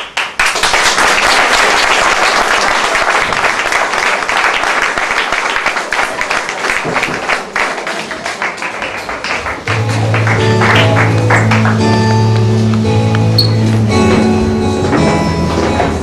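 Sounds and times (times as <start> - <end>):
audience applauding loudly: 0.0 - 12.9.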